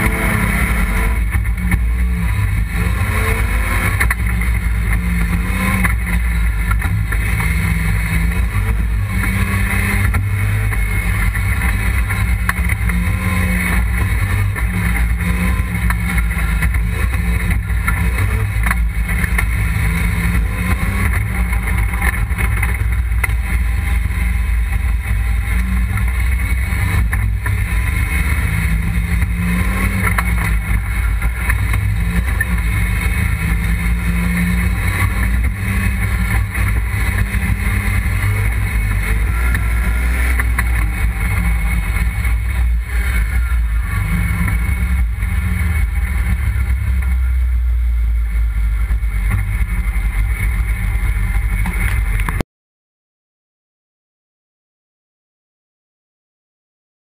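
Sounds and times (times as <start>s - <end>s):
car engine at full throttle: 0.0s - 52.4s.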